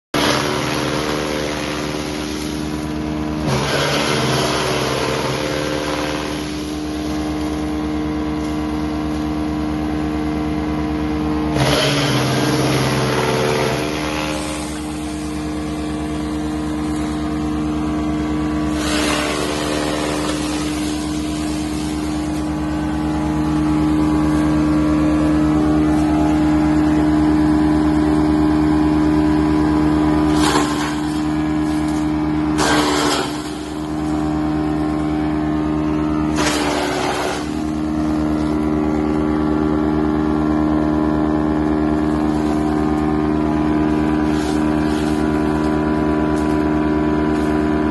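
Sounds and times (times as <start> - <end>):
tractor engine running: 0.1 - 47.9
wood chipper chipping: 0.2 - 47.9.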